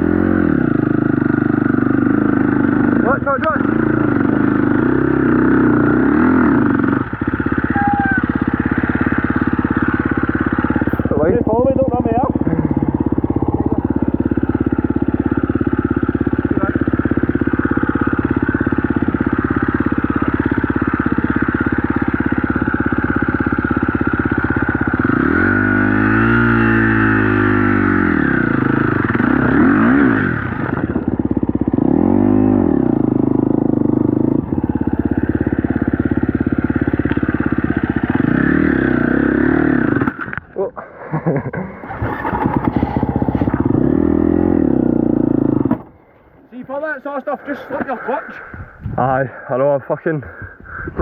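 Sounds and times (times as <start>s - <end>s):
dirt bike engine revving: 0.0s - 40.4s, 41.2s - 46.0s.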